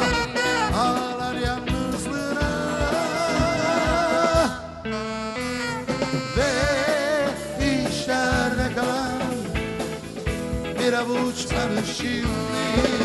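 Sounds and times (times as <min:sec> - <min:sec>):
live band playing slow pop: 0:00.0 - 0:13.0.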